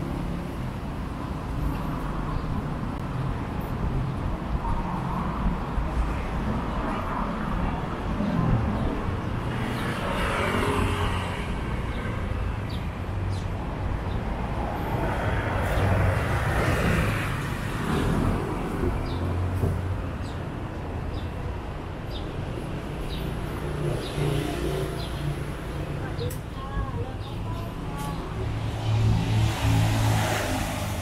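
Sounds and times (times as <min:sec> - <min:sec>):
cars passing on road: 0:00.0 - 0:31.0.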